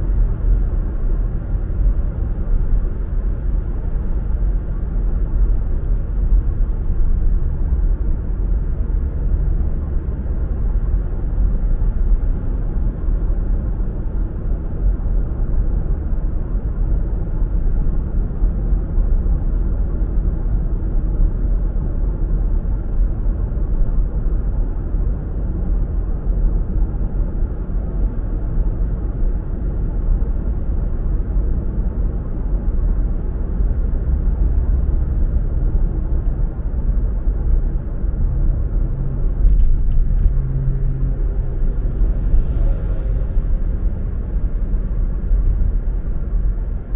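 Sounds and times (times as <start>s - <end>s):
car driving on road: 0.0s - 46.9s.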